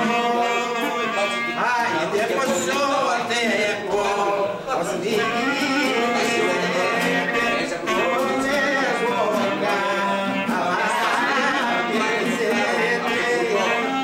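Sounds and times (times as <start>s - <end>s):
instrument playing along: 0.0s - 4.4s, 5.0s - 14.0s
men singing folk song together: 0.0s - 14.0s.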